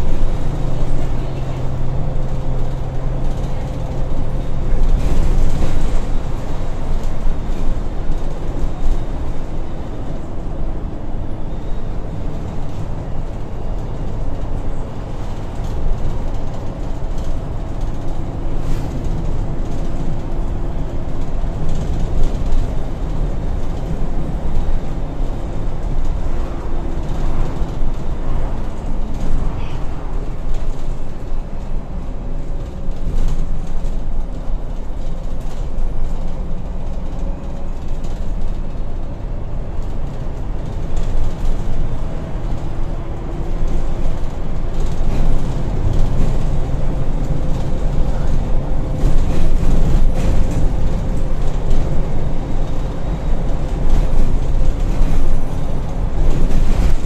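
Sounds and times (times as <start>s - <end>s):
bus body knocks and rattles: 0.0s - 11.4s, 12.1s - 57.0s
bus engine and tyre running noise: 0.0s - 57.0s.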